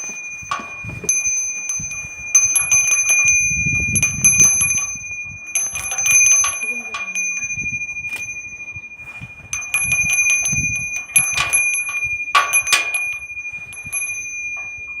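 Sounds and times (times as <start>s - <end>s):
small bell ringing: 0.0s - 15.0s.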